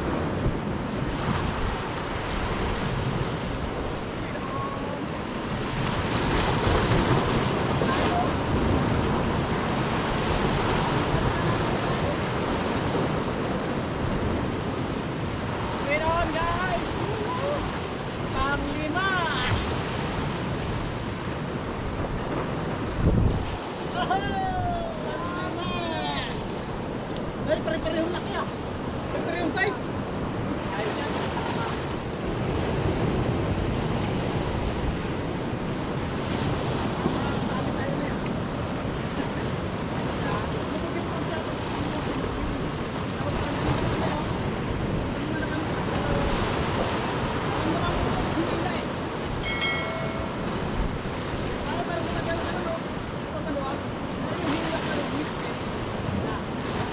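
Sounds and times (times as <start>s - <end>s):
surf breaking against rocks: 0.0s - 56.9s.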